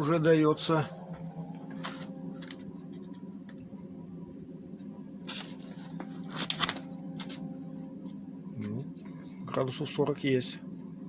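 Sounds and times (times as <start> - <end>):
duct fan humming: 0.0 - 11.0.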